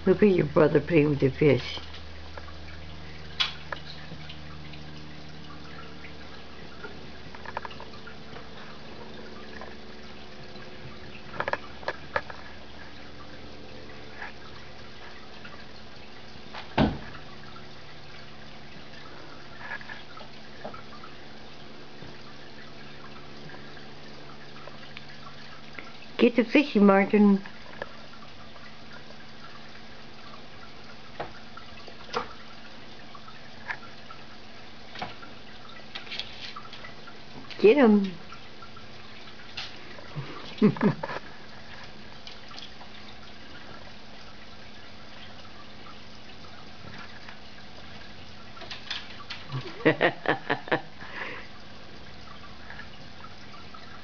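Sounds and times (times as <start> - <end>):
aquarium filter humming: 0.0 - 54.0
water trickling: 0.0 - 54.0.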